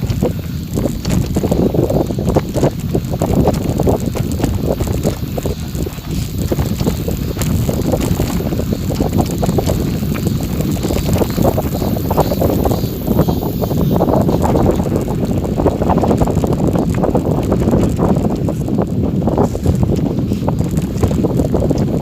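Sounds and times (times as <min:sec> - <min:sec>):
bicycle tyres rolling on gravel: 0:00.0 - 0:22.0
wind buffeting microphone: 0:00.0 - 0:22.0.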